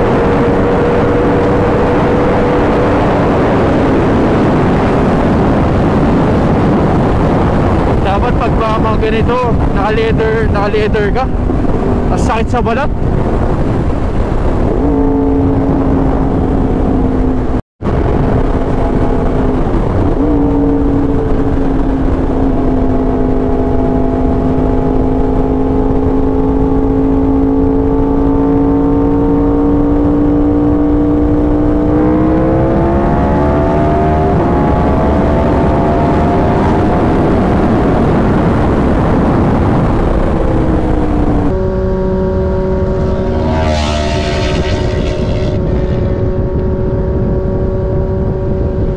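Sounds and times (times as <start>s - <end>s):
motorcycle engine cruising: 0.0s - 48.9s
wind rush: 0.0s - 48.9s.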